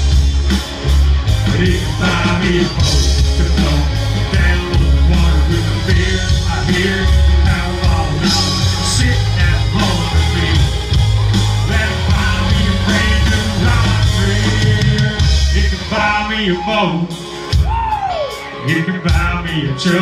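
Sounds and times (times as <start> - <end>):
live country band playing: 0.0 - 20.0.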